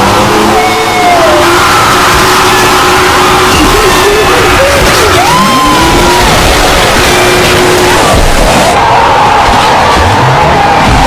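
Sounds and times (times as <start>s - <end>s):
crowd yelling and whooping: 0.0s - 11.0s
loud music: 0.0s - 11.0s.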